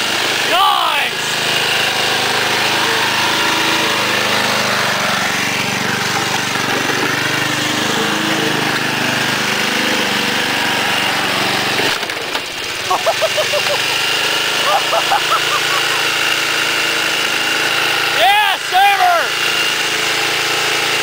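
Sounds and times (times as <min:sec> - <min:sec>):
lawn tractor engine running: 0:00.0 - 0:21.0.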